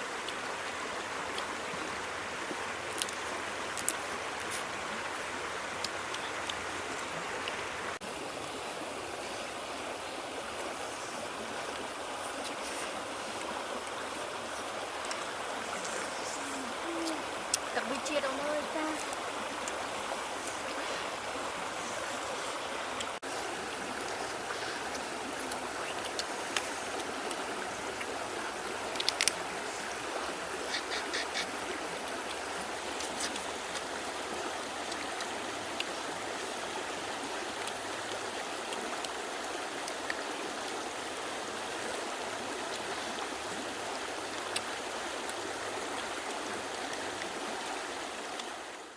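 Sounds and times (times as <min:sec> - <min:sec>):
river flowing: 0:00.0 - 0:48.9.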